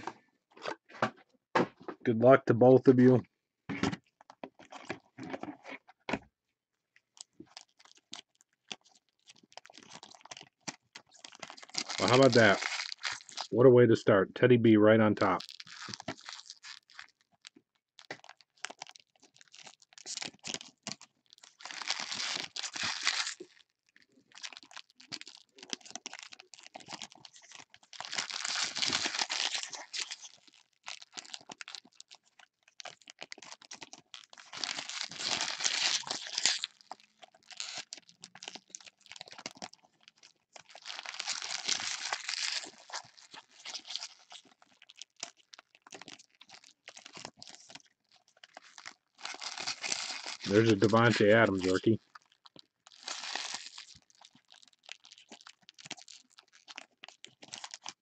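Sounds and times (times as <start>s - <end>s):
foil wrappers crinkling and tearing: 7.2s - 13.6s, 15.2s - 58.0s.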